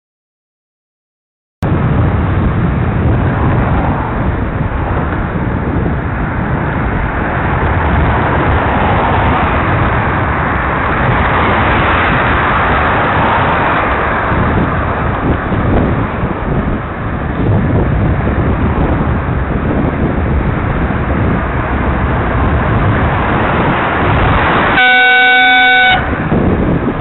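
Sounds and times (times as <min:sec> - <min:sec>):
traffic noise: 0:01.6 - 0:27.0
wind noise on microphone: 0:01.6 - 0:27.0.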